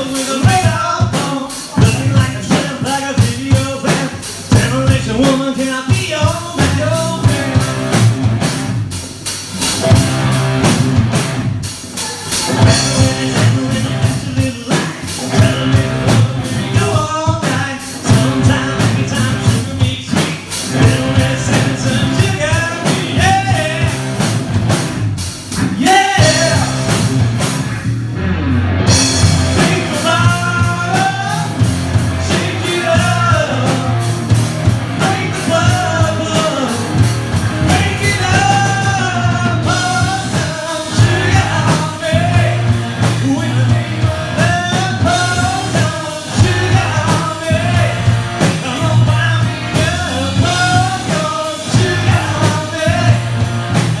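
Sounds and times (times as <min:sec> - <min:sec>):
man singing: 0:00.0 - 0:08.1, 0:12.0 - 0:24.3, 0:25.5 - 0:27.1, 0:29.2 - 0:53.9
bass guitar: 0:00.0 - 0:54.0
drum kit: 0:00.0 - 0:54.0
electric guitars: 0:00.0 - 0:54.0.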